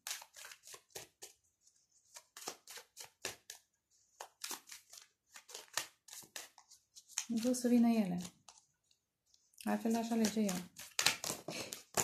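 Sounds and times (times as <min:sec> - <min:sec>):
cards being shuffled: 0:00.0 - 0:08.7, 0:09.4 - 0:12.0.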